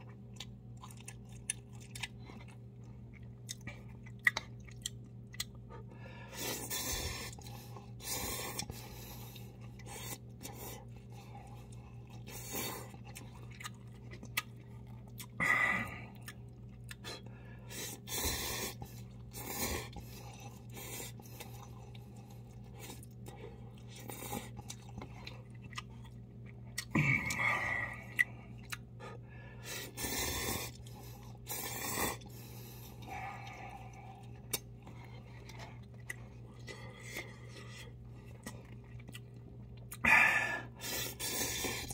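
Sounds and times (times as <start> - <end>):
chewing: 0.0 - 40.2
steady low hum: 0.0 - 41.9.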